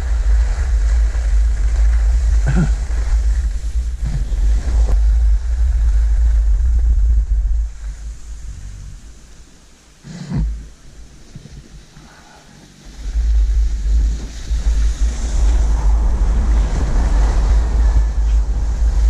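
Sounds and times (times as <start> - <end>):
wind buffeting microphone: 0.0 - 9.8, 12.6 - 19.0
skis hissing over snow: 0.0 - 19.0.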